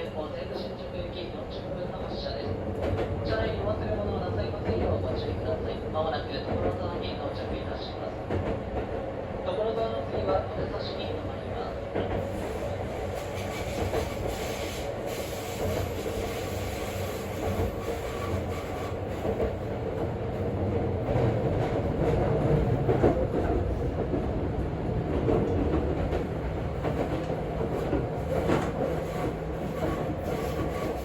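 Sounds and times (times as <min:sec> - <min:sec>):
train wheels rumbling on rail: 0:00.5 - 0:31.0.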